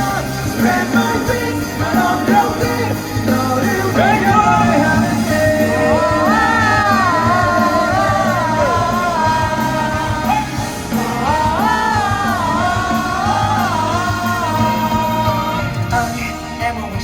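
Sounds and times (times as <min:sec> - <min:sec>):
live pop band: 0:00.0 - 0:17.0
person singing with vibrato: 0:00.0 - 0:17.0.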